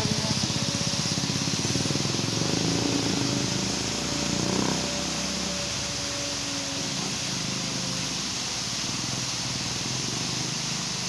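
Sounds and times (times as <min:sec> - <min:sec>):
fast low pulsing: 0:00.0 - 0:09.8
waterfall rushing: 0:00.0 - 0:11.0.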